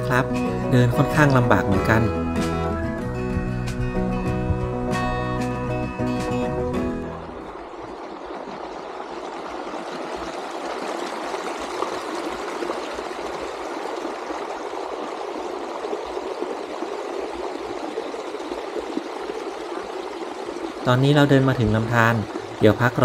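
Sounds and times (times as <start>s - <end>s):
stream of running water: 0.0s - 23.0s.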